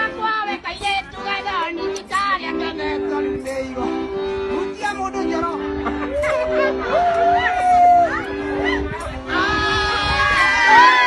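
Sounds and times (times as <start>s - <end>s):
held low chords: 0.0s - 11.0s.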